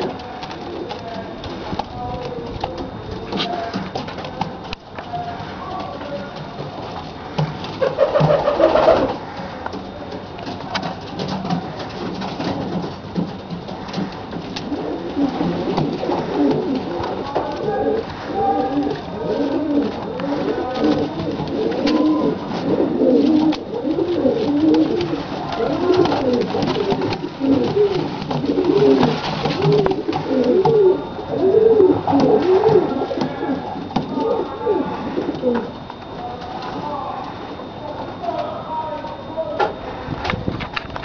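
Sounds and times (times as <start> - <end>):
pigeon rolling coo: 0.0 - 36.9.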